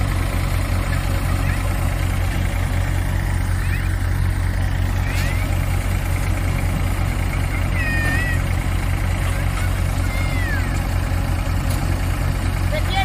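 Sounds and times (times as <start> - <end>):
thresher machine whirring: 0.0 - 12.9
tractor engine drone: 0.0 - 13.0.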